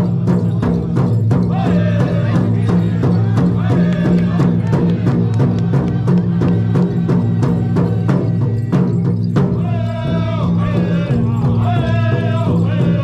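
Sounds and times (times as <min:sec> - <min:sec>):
drum beating fast: 0:00.0 - 0:13.0.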